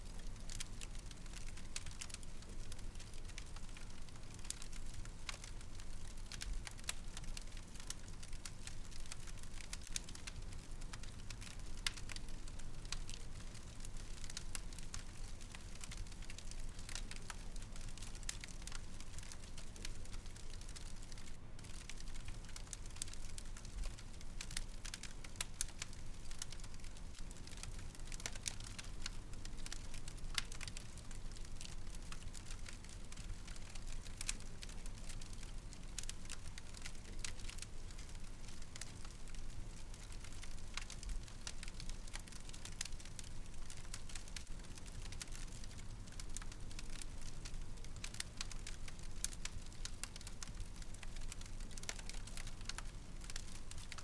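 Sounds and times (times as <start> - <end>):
low rumble of burning: 0.0 - 54.0
wood fire crackling and popping: 0.0 - 54.0.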